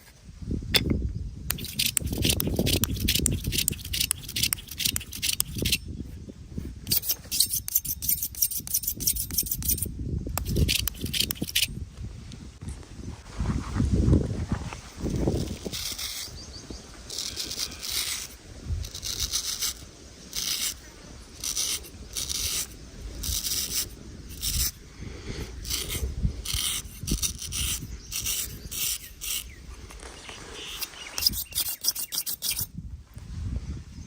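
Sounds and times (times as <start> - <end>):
razor scraping stubble: 1.5 - 11.8, 14.7 - 24.8, 25.4 - 32.7.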